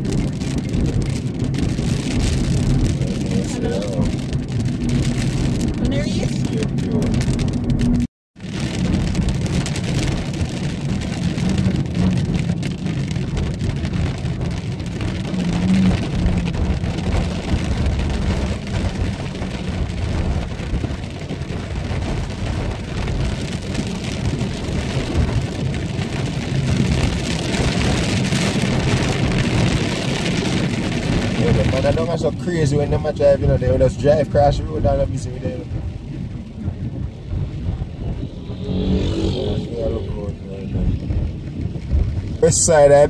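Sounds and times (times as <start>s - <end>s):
car tyres on wet road: 0.0s - 43.0s
rain on car windshield: 0.0s - 43.0s.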